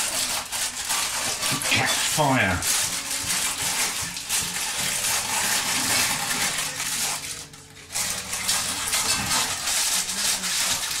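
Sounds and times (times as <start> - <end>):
parchment paper crinkling: 0.0 - 11.0
scissors cutting paper: 0.0 - 11.0.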